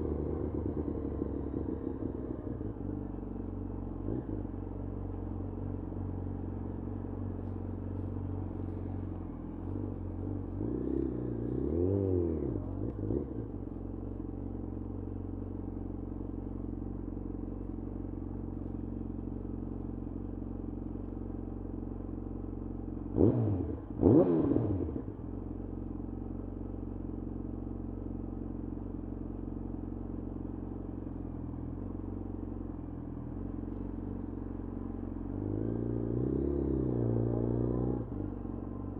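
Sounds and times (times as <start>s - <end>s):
motorcycle engine idling: 0.0s - 24.0s, 24.8s - 36.6s, 38.0s - 38.9s.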